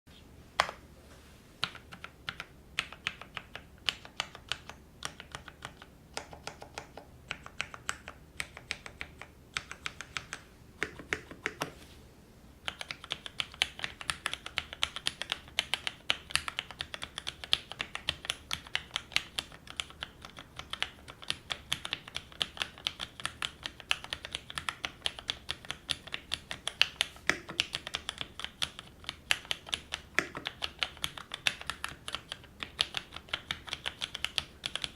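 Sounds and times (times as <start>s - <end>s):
typing on mechanical keyboard: 1.6s - 11.8s, 12.6s - 34.9s.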